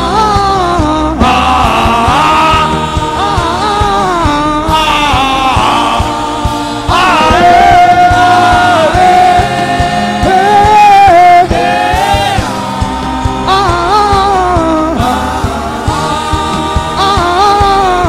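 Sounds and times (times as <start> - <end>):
gospel singing: 0.0 - 18.0
low instrumental backing: 0.0 - 18.0.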